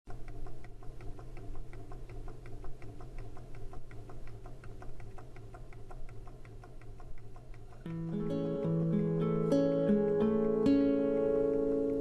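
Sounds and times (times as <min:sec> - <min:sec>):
rapid even ticking: 0:00.1 - 0:12.0
steady low hum: 0:00.1 - 0:12.0.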